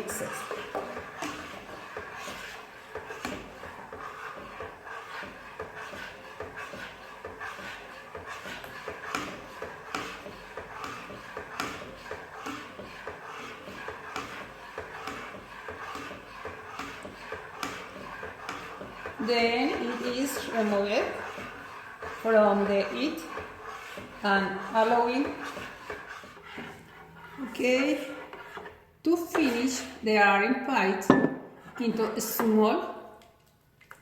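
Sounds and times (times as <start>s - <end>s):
spoon stirring and scraping pot: 0.0s - 34.0s.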